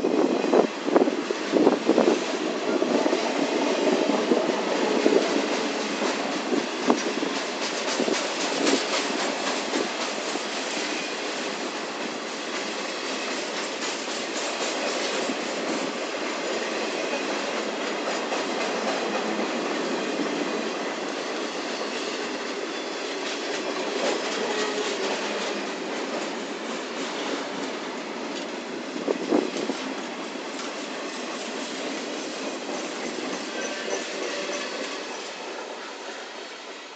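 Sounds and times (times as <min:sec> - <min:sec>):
wheels clicking over rail joints: 0:04.1 - 0:20.6, 0:21.3 - 0:36.0.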